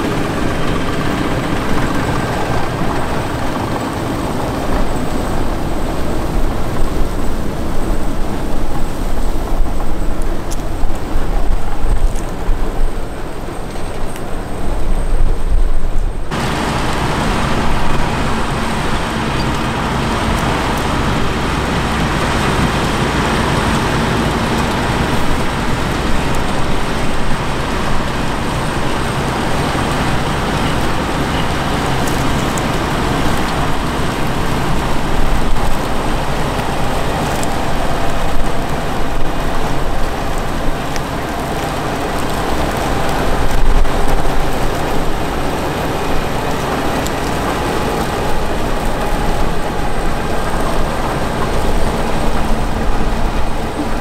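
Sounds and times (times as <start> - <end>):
tractor engine and harvester machinery: 0.0 - 54.0.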